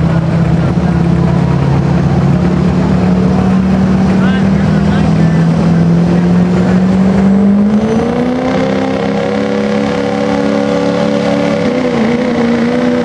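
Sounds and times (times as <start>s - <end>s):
diesel truck engine revving: 0.0s - 13.0s.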